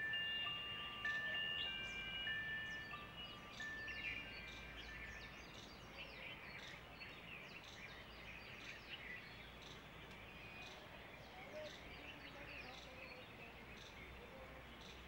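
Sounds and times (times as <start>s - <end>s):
faint background hiss: 0.0s - 15.0s
small birds chirping: 0.0s - 15.0s.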